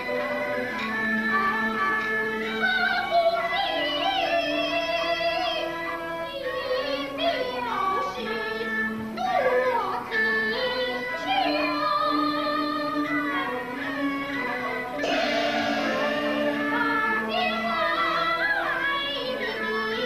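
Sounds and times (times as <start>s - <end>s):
instrumental accompaniment: 0.0s - 20.0s
woman singing opera: 1.5s - 20.0s.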